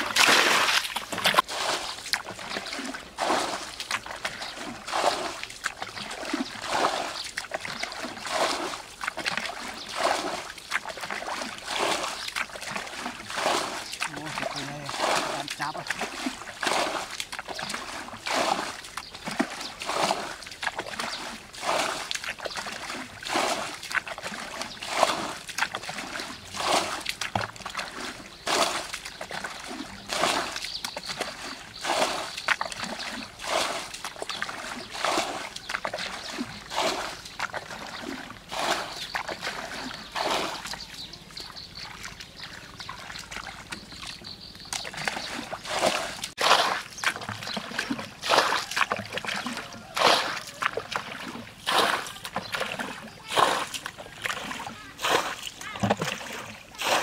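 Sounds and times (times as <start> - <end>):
bucket splashing water: 0.0 - 57.0.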